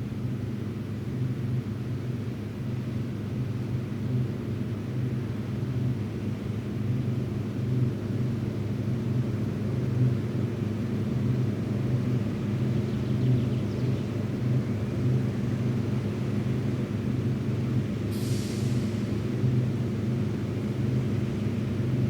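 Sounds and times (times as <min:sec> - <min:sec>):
diesel engine droning under load: 0:00.0 - 0:22.0.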